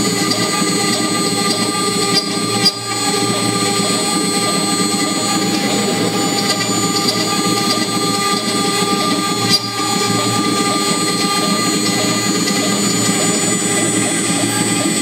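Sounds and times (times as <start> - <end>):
grinding rush of cutting wood: 0.0 - 15.0
router spindle whining: 0.0 - 15.0.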